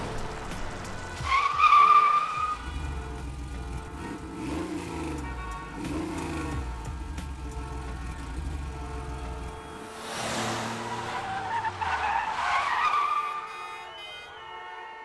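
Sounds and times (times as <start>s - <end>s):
tires screeching: 0.0s - 14.2s.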